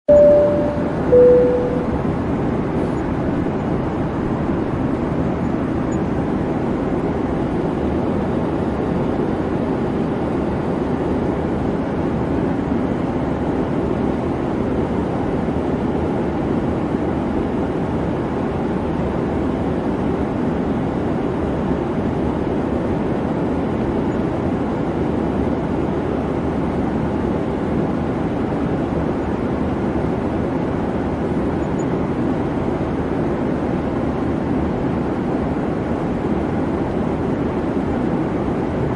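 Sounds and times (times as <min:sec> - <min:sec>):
jet airliner drone: 0:00.1 - 0:38.9.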